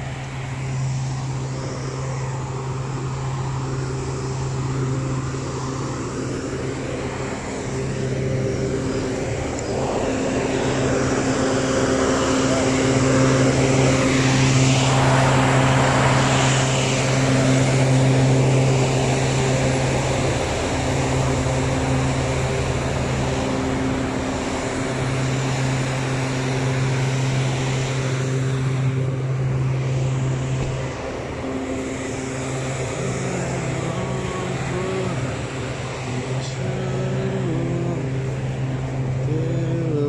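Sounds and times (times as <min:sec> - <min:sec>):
cars passing: 0:00.0 - 0:40.0
low engine drone: 0:00.0 - 0:40.0.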